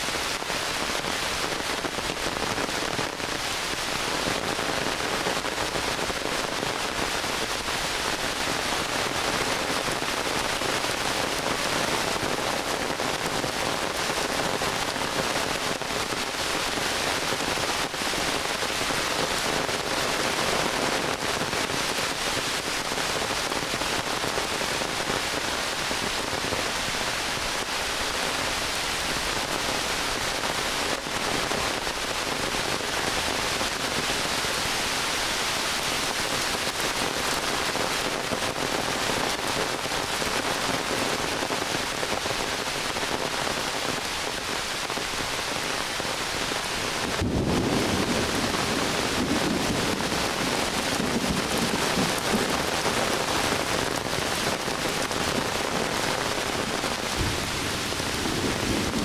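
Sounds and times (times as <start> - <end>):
crackle of close raindrops: 0.0 - 59.0
heavy rain hissing: 0.0 - 59.0.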